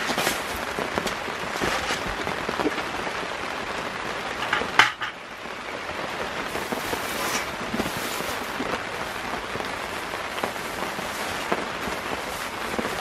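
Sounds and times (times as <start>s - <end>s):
rain pattering on a tarp: 0.0s - 13.0s.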